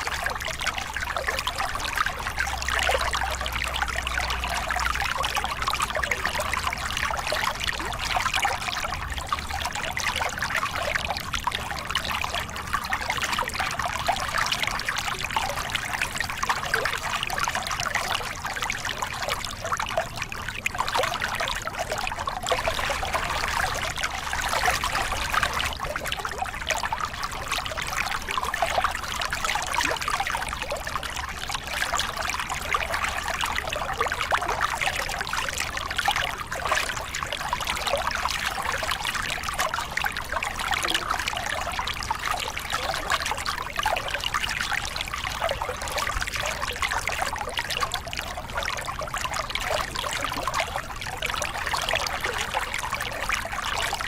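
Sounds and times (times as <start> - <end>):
water splashing over rocks: 0.0 - 54.0.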